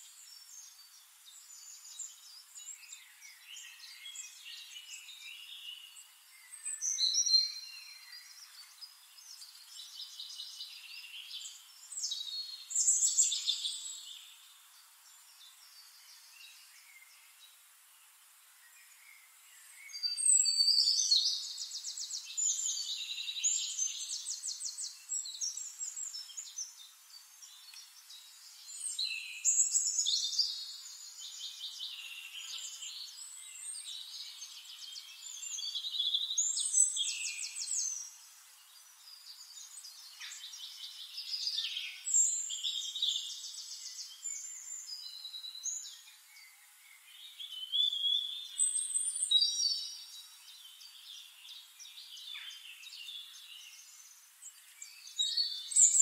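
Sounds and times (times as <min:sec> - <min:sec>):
quiet bird chirping: 0:00.0 - 0:56.0.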